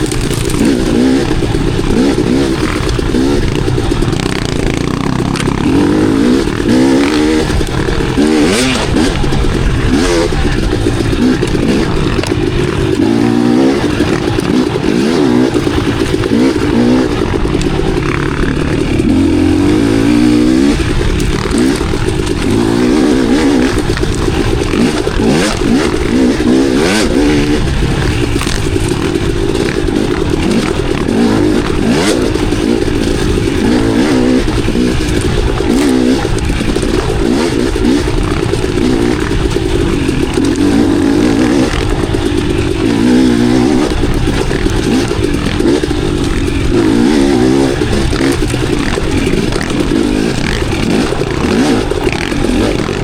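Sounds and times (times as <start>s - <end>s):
dirt bike engine revving: 0.0s - 53.0s
sharp knocks and clatter: 0.0s - 53.0s.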